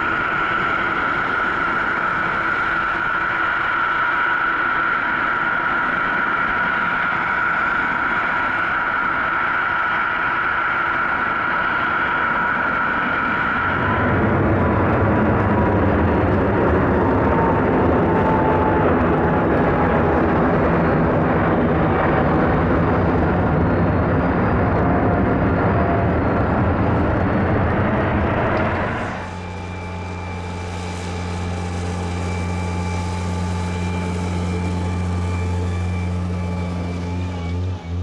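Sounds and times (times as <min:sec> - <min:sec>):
droning hum: 0:00.0 - 0:38.0
jet engines roaring: 0:00.0 - 0:38.0.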